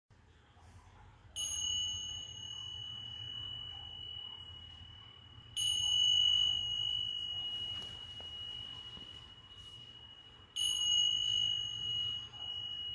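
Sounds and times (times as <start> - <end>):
small cymbals ringing: 1.4 - 12.9.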